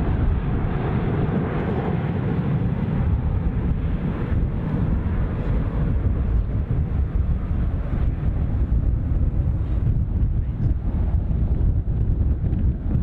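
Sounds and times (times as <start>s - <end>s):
jet aircraft rumble: 0.0s - 13.0s.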